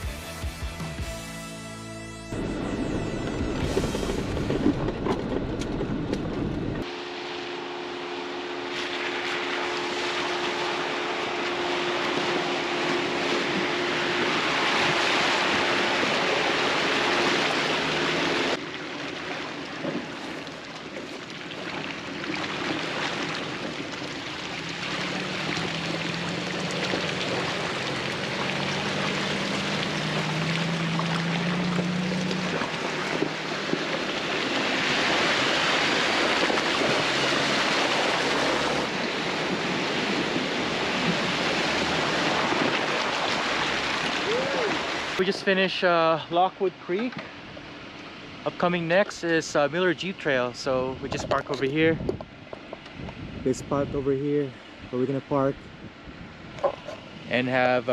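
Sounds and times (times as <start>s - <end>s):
vehicle engine hum: 1.9s - 57.9s.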